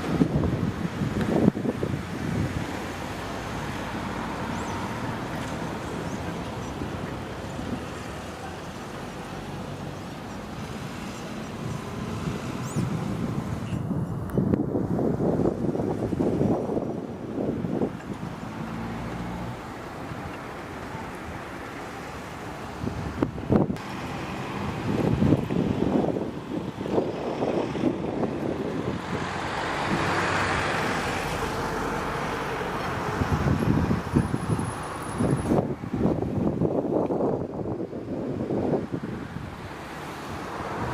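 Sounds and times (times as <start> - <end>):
wind buffeting microphone: 0.0 - 21.6, 22.3 - 40.9.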